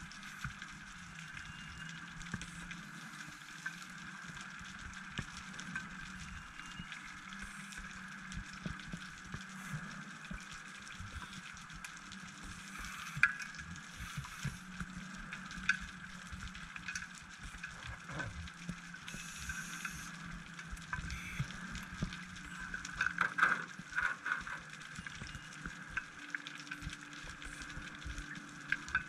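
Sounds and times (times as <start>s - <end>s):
underwater clicks and crackling: 0.0s - 29.0s
underwater low hum: 0.0s - 29.0s.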